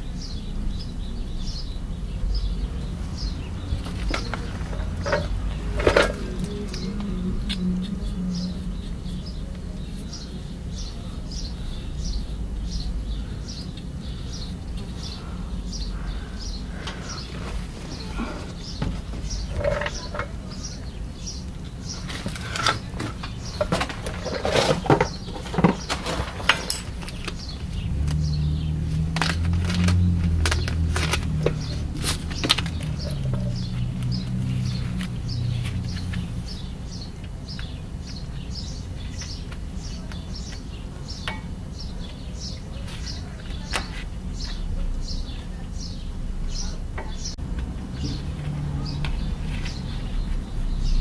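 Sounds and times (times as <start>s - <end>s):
bird chirping: 0.0s - 51.0s.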